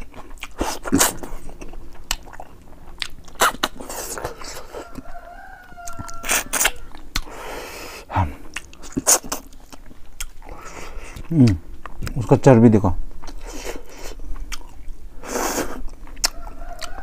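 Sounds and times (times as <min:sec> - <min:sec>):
close-up chewing: 0:00.0 - 0:12.3, 0:13.2 - 0:17.0.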